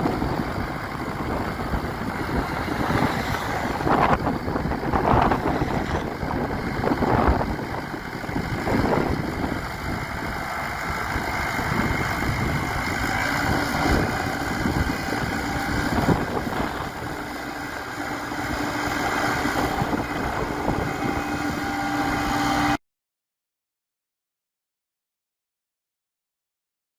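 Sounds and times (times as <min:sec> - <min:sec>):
tractor diesel engine running: 0:00.0 - 0:22.8
wind noise on microphone: 0:00.0 - 0:22.8.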